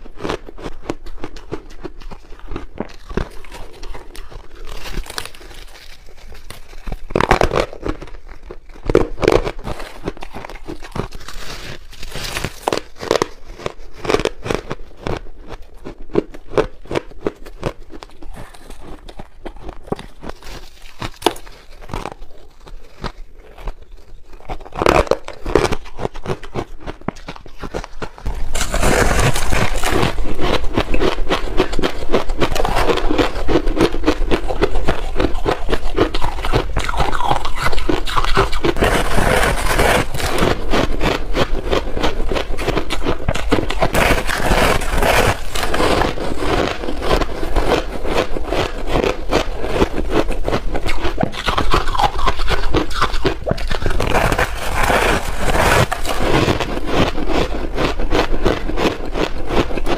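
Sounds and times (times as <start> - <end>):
ice being chewed and crunched: 0.0 - 59.9.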